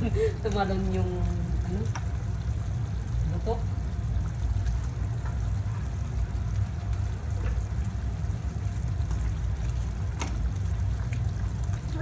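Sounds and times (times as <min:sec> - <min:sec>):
faint watery noise: 0:00.0 - 0:12.0
gas burner rumble: 0:00.0 - 0:12.0.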